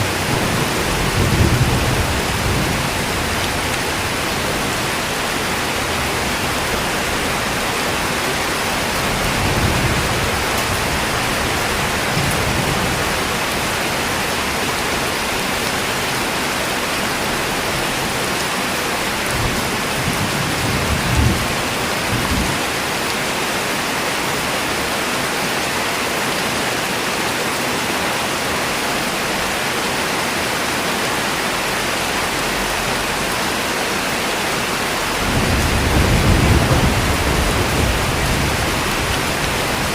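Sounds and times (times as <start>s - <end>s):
dense rainfall hiss: 0.0s - 39.9s.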